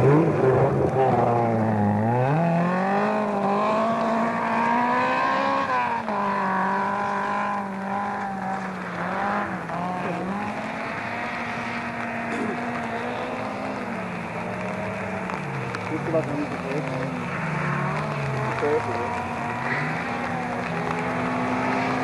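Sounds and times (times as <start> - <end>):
rally car engine revving hard: 0.0 - 22.0.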